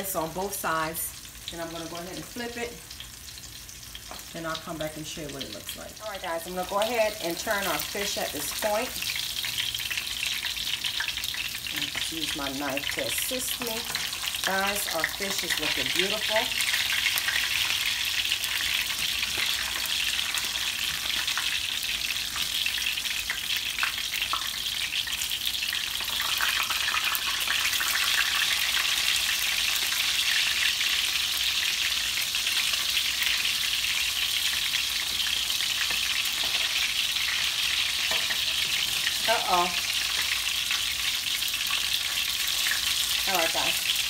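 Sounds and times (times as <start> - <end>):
fish frying in hot oil: 0.0 - 44.0.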